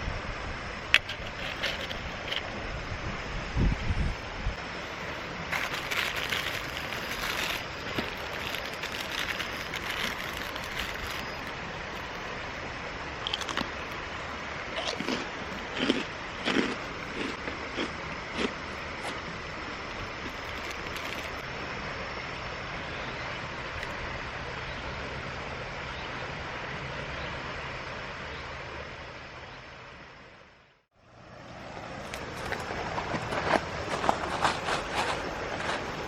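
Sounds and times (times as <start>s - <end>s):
mountain stream rushing: 0.0s - 30.4s, 31.1s - 36.0s.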